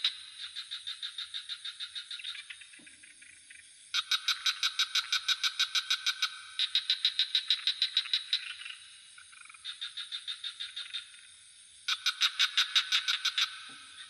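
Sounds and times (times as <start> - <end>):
frogs calling in pulsed trains: 0.0 - 14.0.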